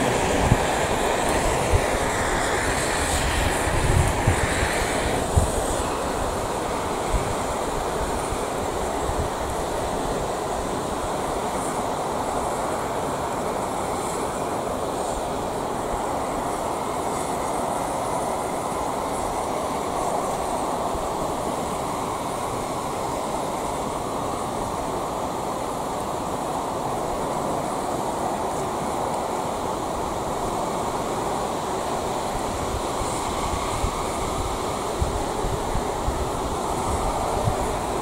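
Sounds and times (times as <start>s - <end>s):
fire burning: 0.0s - 38.0s
gas torch flame roaring: 0.0s - 38.0s.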